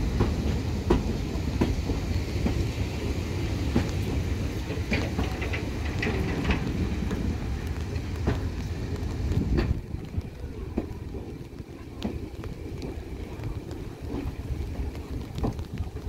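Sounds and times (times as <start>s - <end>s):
locomotive diesel engine rumbling: 0.0s - 16.0s
wind buffeting microphone: 0.0s - 16.0s.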